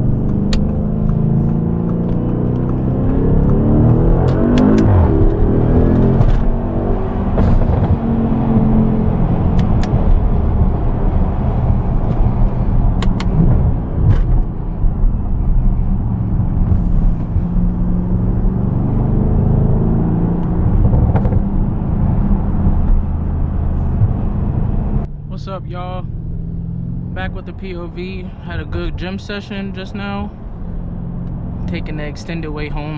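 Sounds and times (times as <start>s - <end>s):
car engine droning: 0.0s - 32.9s
road noise: 0.0s - 32.9s.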